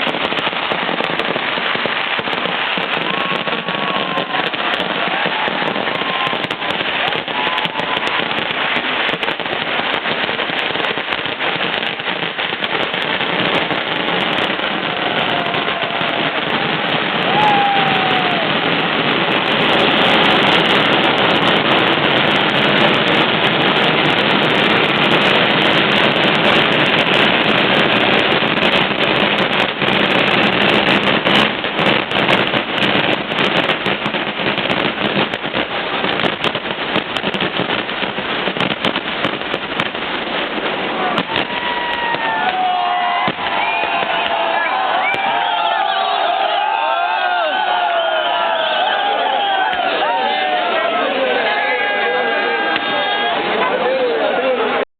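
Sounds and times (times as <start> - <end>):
firework whistles: 0.0 - 50.5
firecrackers crackling: 0.0 - 54.9.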